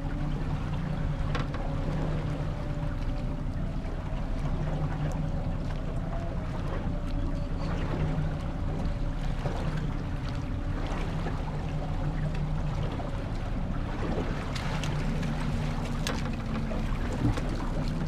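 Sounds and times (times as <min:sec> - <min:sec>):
outboard motor idling: 0:00.0 - 0:18.0
water lapping: 0:00.0 - 0:18.0.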